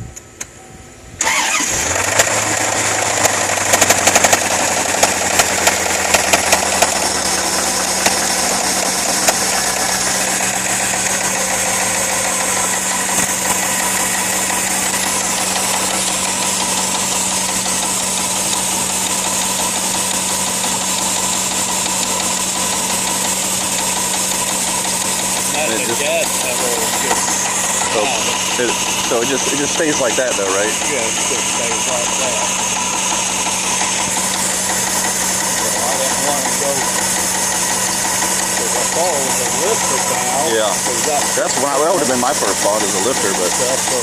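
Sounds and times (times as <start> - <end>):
car engine starting and idling: 1.2 - 44.0
engine knocking: 1.2 - 44.0.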